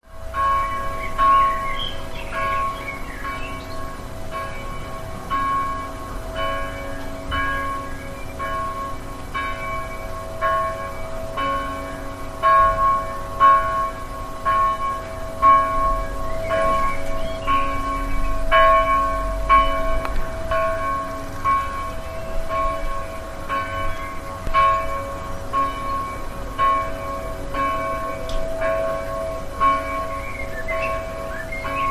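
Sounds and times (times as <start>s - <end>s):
church bells ringing: 0.0s - 31.9s.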